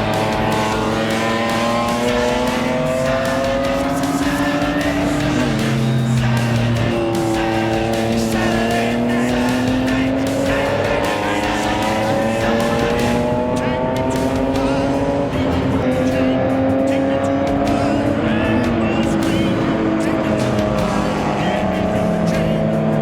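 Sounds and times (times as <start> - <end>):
race car engine accelerating: 0.0 - 23.0.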